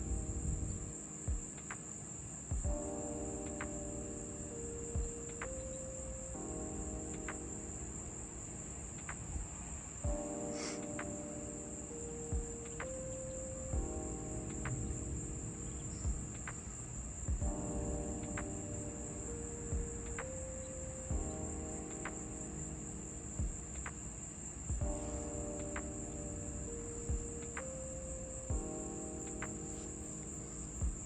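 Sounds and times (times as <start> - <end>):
background music with beat: 0.0 - 8.0, 8.9 - 31.0
insects droning: 0.0 - 31.0.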